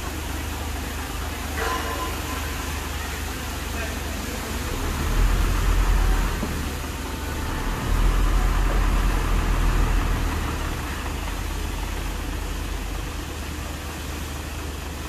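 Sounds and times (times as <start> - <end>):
low engine rumble: 0.0 - 15.0
road noise hiss: 0.0 - 15.0.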